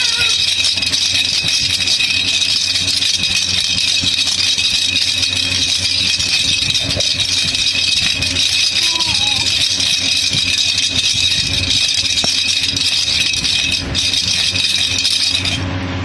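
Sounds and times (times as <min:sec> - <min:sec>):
baby rattle shaken: 0:00.0 - 0:15.7.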